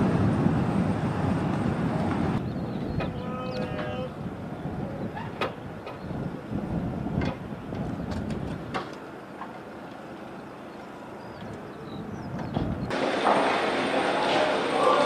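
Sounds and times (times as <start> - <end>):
distant machinery rumble: 0.0 - 15.0.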